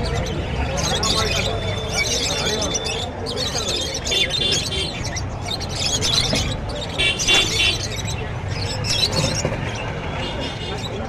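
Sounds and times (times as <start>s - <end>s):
small birds chirping: 0.0s - 10.1s
murmur of voices: 0.0s - 11.0s.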